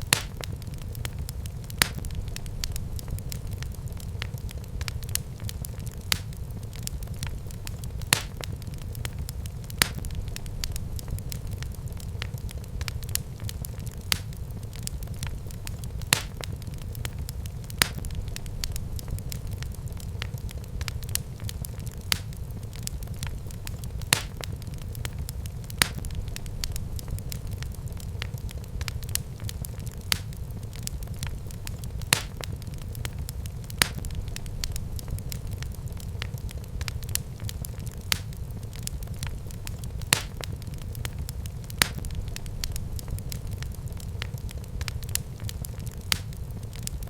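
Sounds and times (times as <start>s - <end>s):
fire popping and crackling: 0.0s - 47.0s
low rumble of flames: 0.0s - 47.0s.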